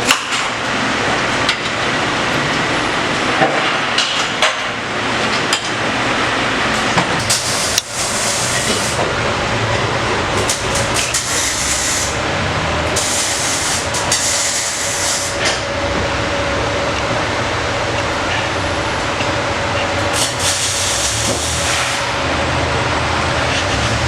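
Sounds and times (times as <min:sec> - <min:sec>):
workshop machine whine and hum: 0:00.0 - 0:24.0.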